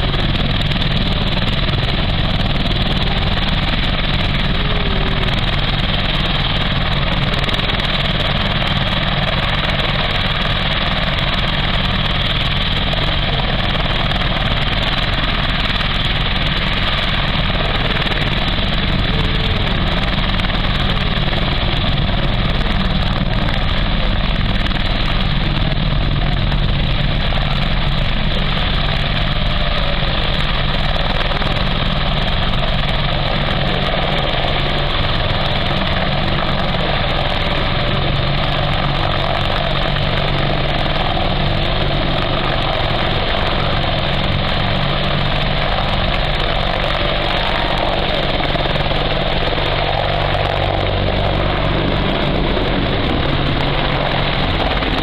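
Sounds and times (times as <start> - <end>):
helicopter lifting off: 0.0 - 55.0.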